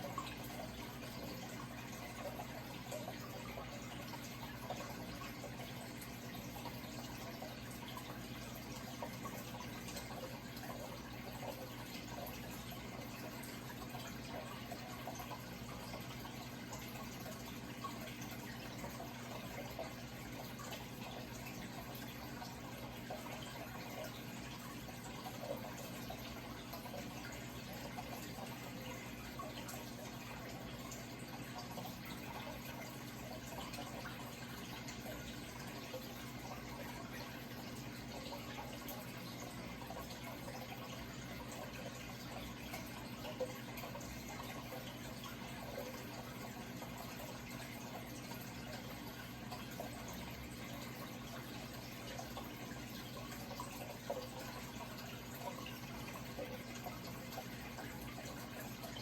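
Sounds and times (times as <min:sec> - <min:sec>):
low steady hum: 0:00.0 - 0:59.0
running water trickling: 0:00.0 - 0:59.0.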